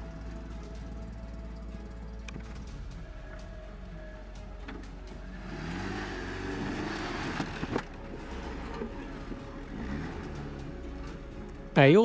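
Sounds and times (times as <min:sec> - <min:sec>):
car engine revving: 0:00.0 - 0:11.8
tyre and ground noise: 0:00.0 - 0:12.0.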